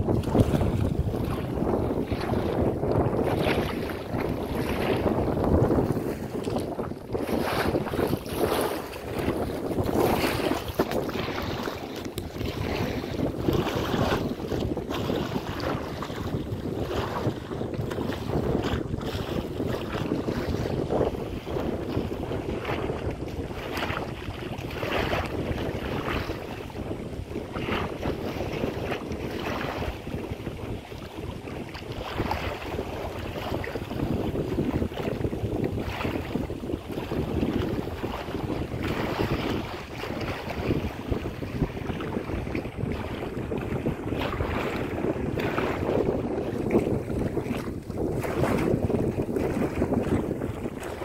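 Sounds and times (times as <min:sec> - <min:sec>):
small waves splashing: 0:00.0 - 0:51.0
wind gusting on microphone: 0:00.0 - 0:51.0.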